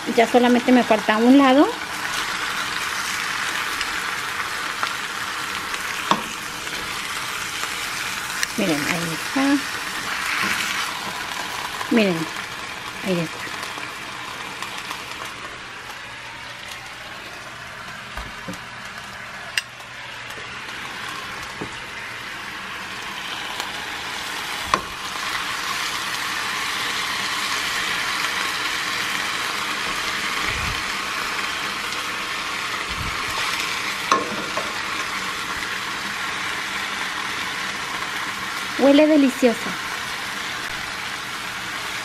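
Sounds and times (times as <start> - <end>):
meat sizzling in hot oil: 0.0 - 42.0.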